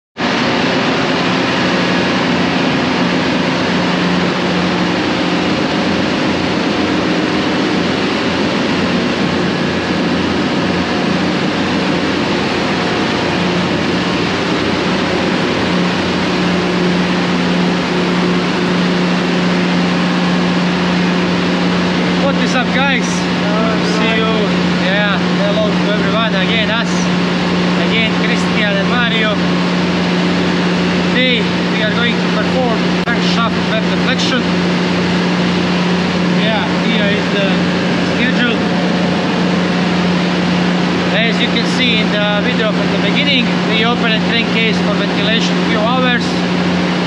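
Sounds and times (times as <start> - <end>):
diesel engine room machinery din: 0.2 - 47.0
steady low hum: 0.2 - 47.0.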